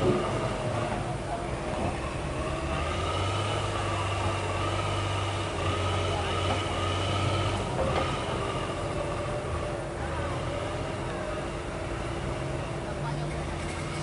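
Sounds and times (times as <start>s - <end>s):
heavy diesel engine whining: 0.0s - 14.0s.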